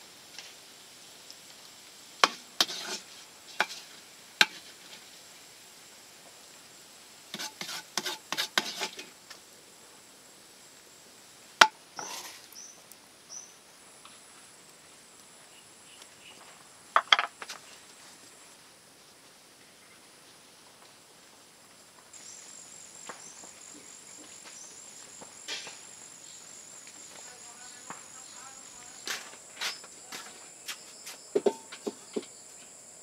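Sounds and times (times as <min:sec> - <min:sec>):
faint insect chirr: 0:00.0 - 0:33.0.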